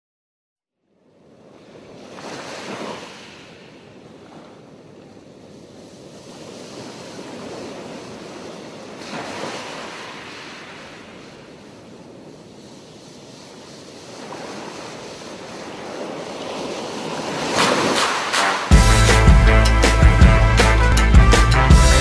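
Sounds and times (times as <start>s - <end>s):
sea waves breaking on shore: 1.0s - 21.8s.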